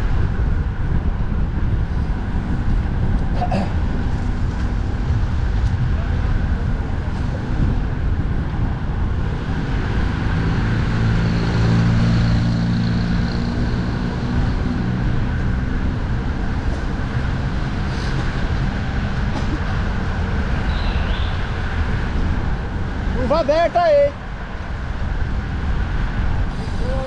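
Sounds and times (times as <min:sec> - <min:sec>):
expressway traffic rushing past: 0:00.0 - 0:27.0
large vehicle engine droning: 0:00.0 - 0:27.0
wind rumble on microphone: 0:00.0 - 0:27.0.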